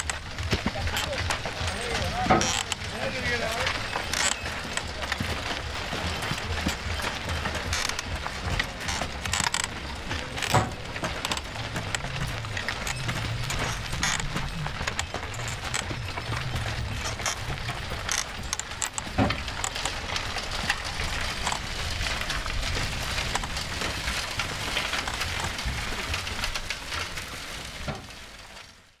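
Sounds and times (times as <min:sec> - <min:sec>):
oil mill clattering: 0:00.0 - 0:28.2.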